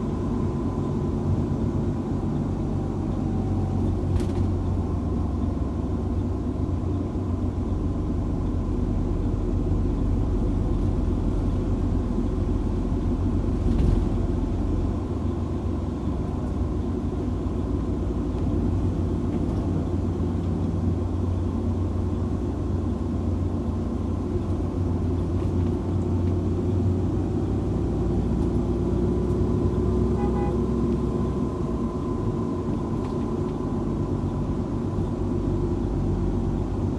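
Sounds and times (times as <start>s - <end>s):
car driving low rumble: 0.0s - 36.9s.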